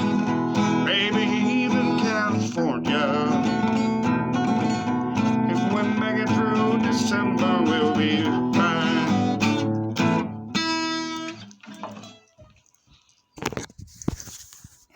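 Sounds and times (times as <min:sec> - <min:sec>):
acoustic guitar playing: 0:00.0 - 0:12.6.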